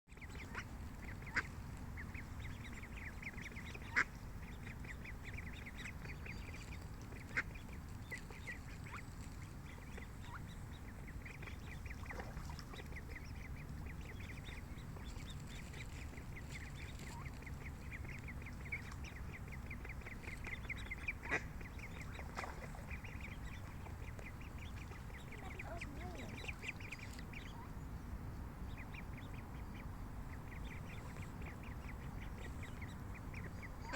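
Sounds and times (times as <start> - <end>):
ducklings peeping: 0.1 - 33.9
steady low rumble: 0.2 - 33.9.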